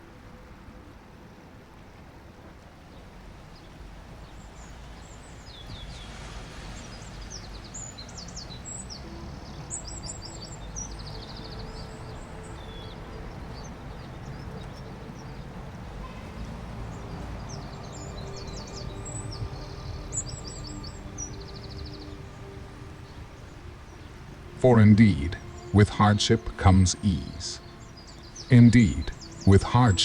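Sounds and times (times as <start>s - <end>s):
ocean waves: 0.0s - 30.0s
small birds chirping: 0.4s - 30.0s.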